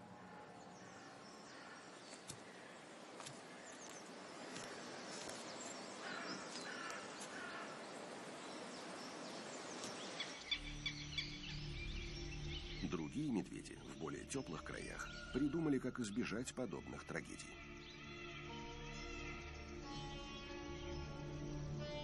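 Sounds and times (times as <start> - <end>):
outdoor ambient noise: 0.0 - 22.0.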